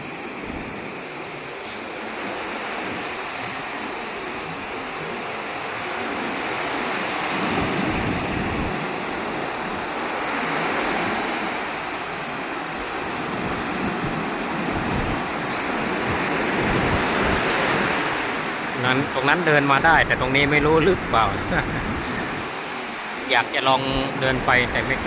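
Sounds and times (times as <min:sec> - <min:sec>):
sea waves washing on shore: 0:00.0 - 0:25.0
wind gusting on microphone: 0:00.0 - 0:25.0.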